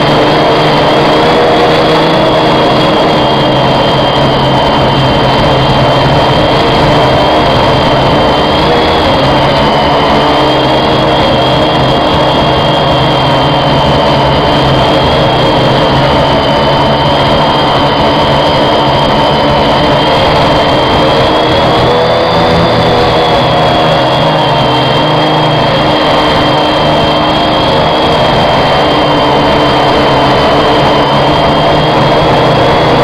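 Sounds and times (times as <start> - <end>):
quadcopter motors whining: 0.0 - 33.0.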